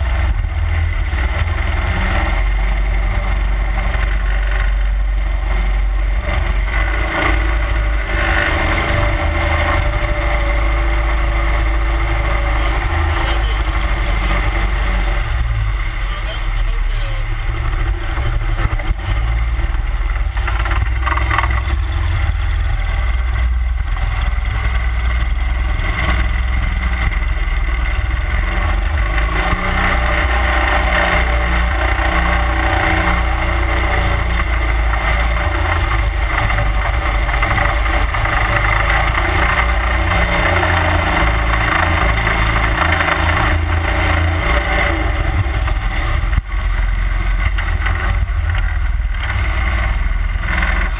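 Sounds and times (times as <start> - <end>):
boat motor running steadily: 0.0 - 50.9.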